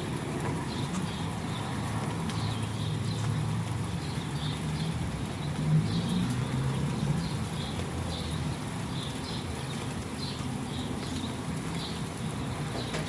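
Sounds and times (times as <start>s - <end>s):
soft rain hiss: 0.0s - 13.0s.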